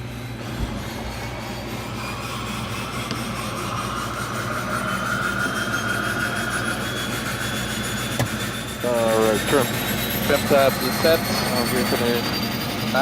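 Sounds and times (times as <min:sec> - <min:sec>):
turbine whine: 0:00.0 - 0:13.0
turboprop engines low hum: 0:00.0 - 0:13.0.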